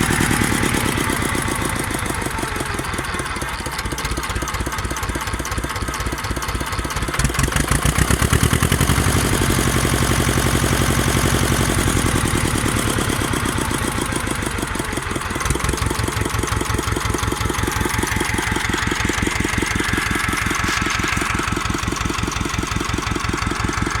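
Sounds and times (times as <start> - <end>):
tractor diesel engine idling: 0.0 - 24.0.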